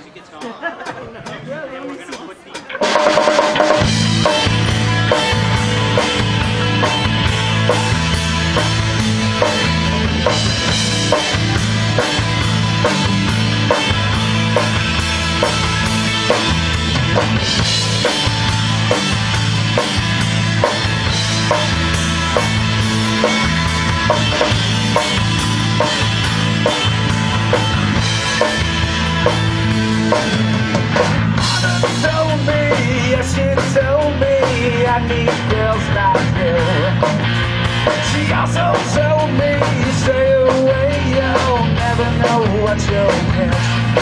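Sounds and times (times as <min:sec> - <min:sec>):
rock band playing live: 0:00.3 - 0:44.0.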